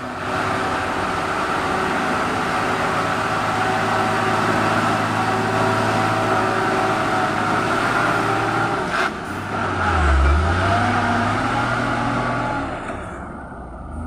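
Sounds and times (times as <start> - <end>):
diesel truck engine labouring: 0.0 - 14.0
road noise: 0.0 - 14.0.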